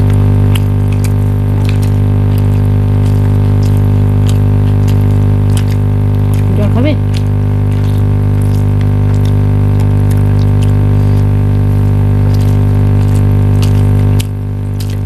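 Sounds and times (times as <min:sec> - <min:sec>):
loud steady hum: 0:00.0 - 0:15.0.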